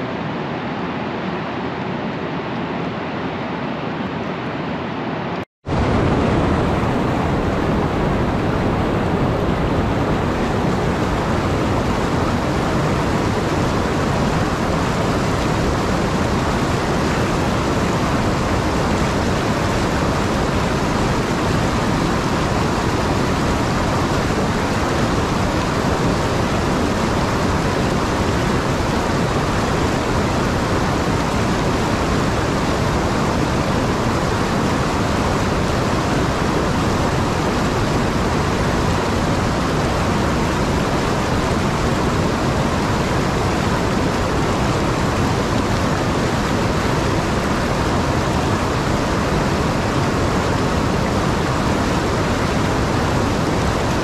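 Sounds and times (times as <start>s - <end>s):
river water rushing over dam: 5.7s - 54.0s.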